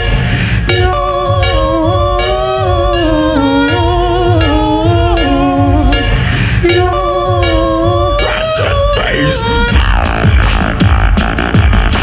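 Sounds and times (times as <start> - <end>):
hummed vocal melody: 0.0 - 12.0
pulsing vocal bass loop: 0.0 - 12.0.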